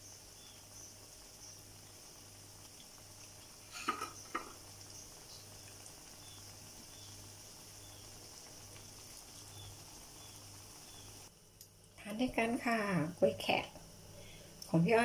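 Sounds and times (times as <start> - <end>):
bananas frying in oil: 0.0 - 15.0.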